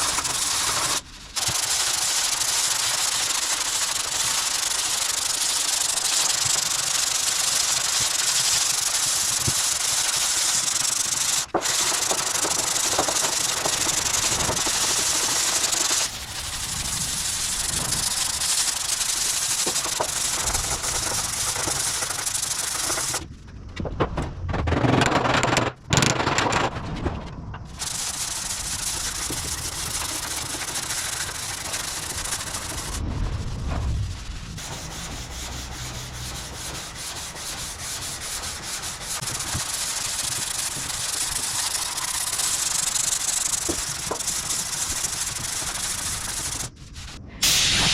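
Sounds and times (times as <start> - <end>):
sandpaper rubbing on steel: 0.0 - 23.2, 27.7 - 33.0, 33.9 - 47.9.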